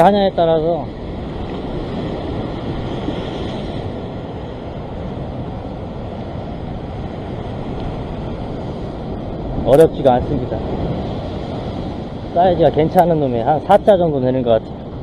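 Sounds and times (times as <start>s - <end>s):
ocean surf against rocks: 0.0s - 15.0s
wind on microphone: 0.0s - 15.0s.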